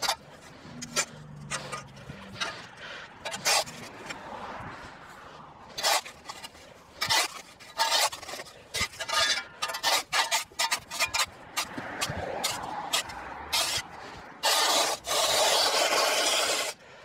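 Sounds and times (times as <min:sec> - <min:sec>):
hand tool scraping soil: 0:00.0 - 0:04.4, 0:05.7 - 0:16.8.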